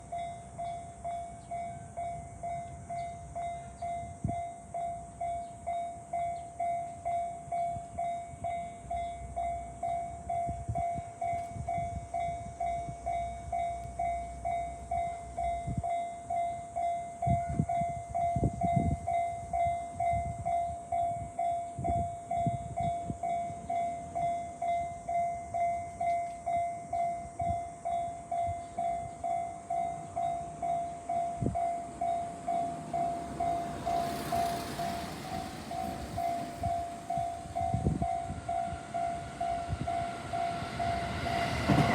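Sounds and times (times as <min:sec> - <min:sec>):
railroad crossing bell dinging: 0:00.0 - 0:41.9
train rumbling past: 0:00.0 - 0:41.9.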